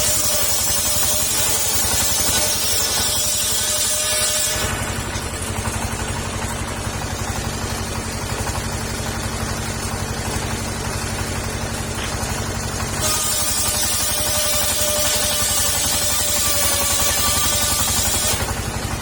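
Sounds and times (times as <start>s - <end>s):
petrol engine running circular saw: 0.0s - 19.0s.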